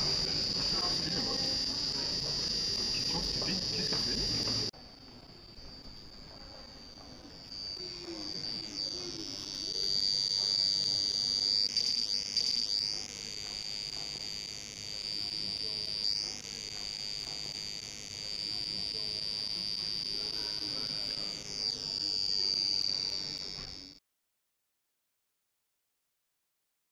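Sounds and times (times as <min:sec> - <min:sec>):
high electronic whine: 0:00.0 - 0:04.7, 0:05.8 - 0:24.0.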